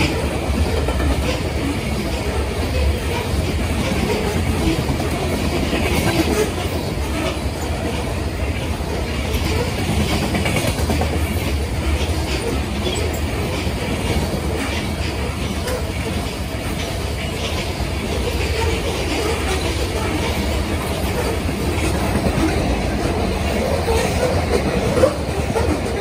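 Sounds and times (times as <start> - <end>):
freight train rumbling: 0.0 - 26.0
wheels clacking over rails: 0.0 - 26.0.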